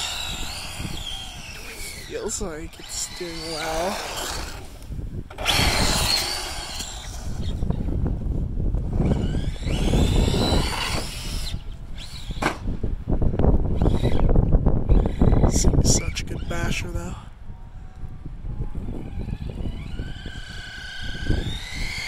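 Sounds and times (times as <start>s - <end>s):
toy truck motor and gears whining: 0.0s - 8.0s, 8.8s - 12.7s, 13.7s - 22.0s.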